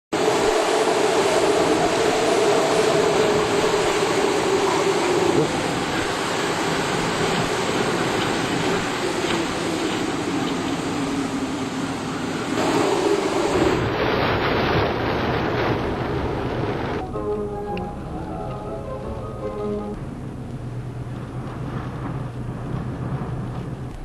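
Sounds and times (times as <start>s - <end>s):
hurricane wind: 0.1s - 24.0s
storm surf roaring: 0.1s - 24.0s.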